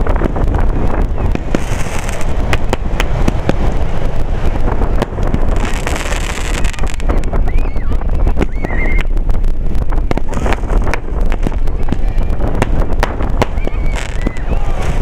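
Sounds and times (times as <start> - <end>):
fireworks bursting: 0.0 - 15.0
low rumble: 0.0 - 15.0.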